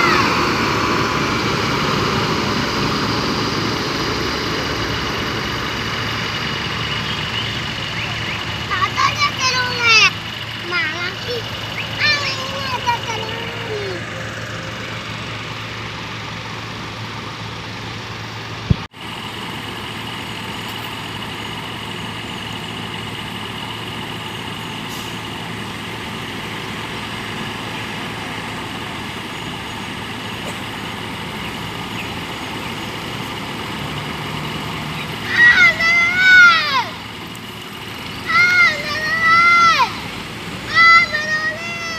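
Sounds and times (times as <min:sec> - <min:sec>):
bus engine idling: 0:00.0 - 0:41.9.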